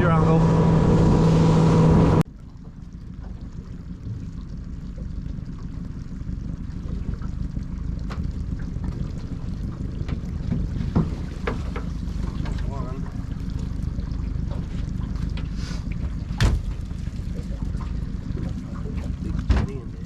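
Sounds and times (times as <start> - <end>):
outboard motor humming: 0.0 - 20.0
water lapping at hull: 0.0 - 20.0.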